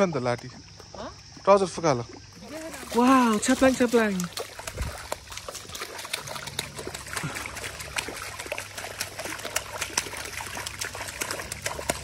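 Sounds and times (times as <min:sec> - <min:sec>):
feet splashing in pool water: 0:00.0 - 0:12.0.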